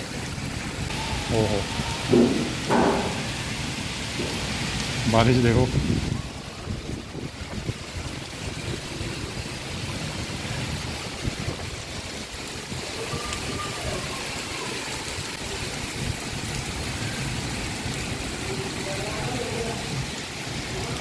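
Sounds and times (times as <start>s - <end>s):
heavy rain hissing: 0.0s - 21.0s.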